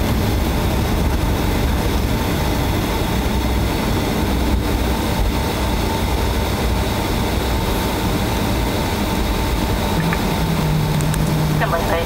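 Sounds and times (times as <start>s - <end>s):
aircraft wheels and engines rumbling: 0.0s - 12.0s
faint steady whine: 0.0s - 12.0s.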